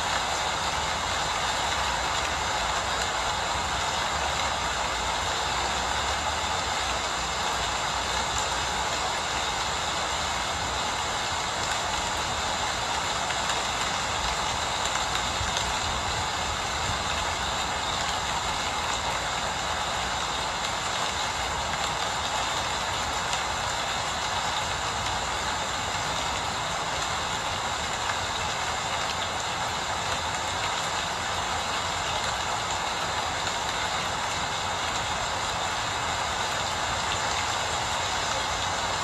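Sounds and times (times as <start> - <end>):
steady rain hissing: 0.0 - 39.0.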